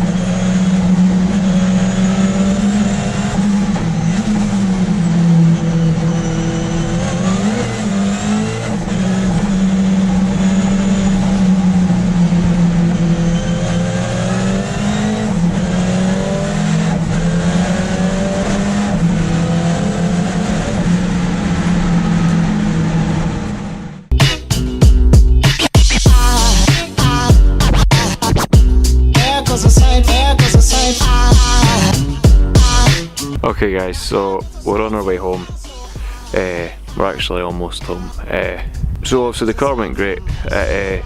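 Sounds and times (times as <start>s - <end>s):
race car engine revving: 0.0s - 24.7s, 25.4s - 34.2s.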